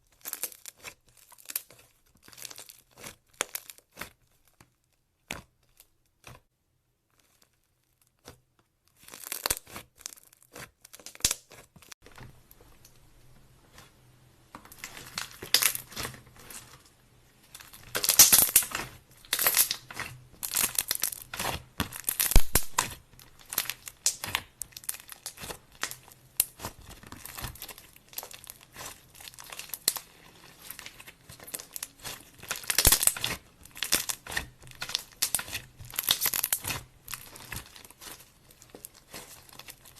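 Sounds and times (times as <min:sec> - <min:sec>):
slime squished by hand: 0:00.2 - 0:06.4, 0:07.2 - 0:11.9, 0:14.7 - 0:39.9.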